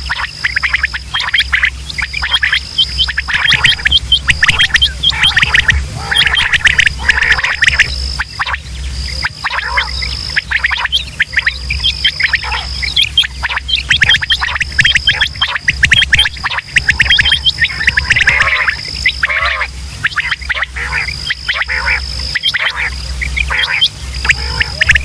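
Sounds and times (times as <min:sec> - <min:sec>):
low hum: 0:00.0 - 0:25.0
quail calling: 0:00.0 - 0:25.0.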